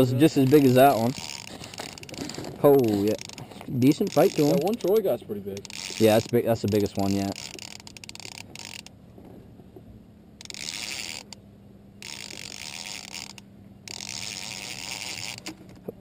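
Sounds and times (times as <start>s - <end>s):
fishing reel gears whirring: 0.0s - 9.0s, 10.4s - 11.4s, 12.0s - 15.8s.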